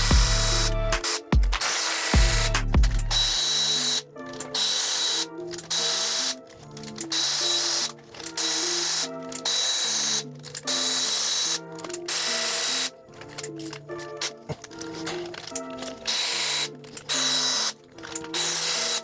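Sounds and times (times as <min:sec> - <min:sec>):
power tool whining in bursts: 0:03.1 - 0:19.0.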